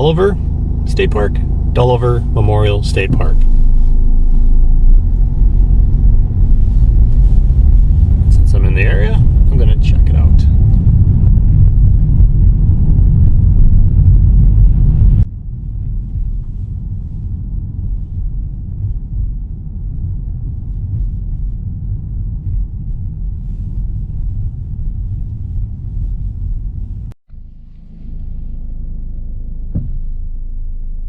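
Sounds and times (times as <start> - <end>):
car tyres and engine rumbling: 0.0 - 31.0.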